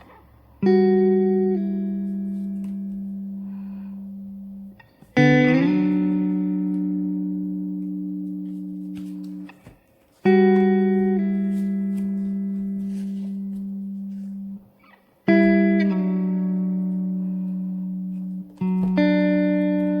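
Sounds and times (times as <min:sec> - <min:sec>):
slow guitar chords: 0:00.0 - 0:20.0.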